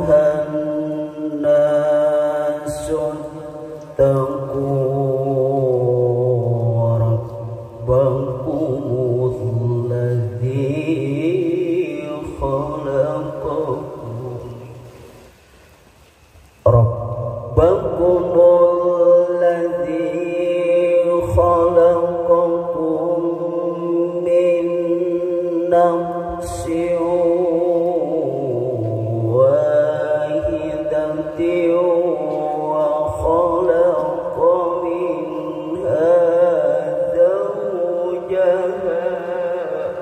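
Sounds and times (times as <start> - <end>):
man reciting melodically: 0.0 - 15.2, 16.6 - 40.0.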